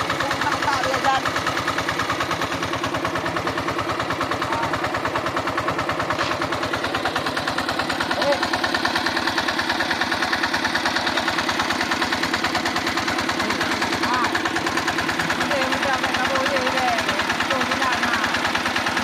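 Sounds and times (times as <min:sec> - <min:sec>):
diesel pump engine chugging: 0:00.0 - 0:19.0.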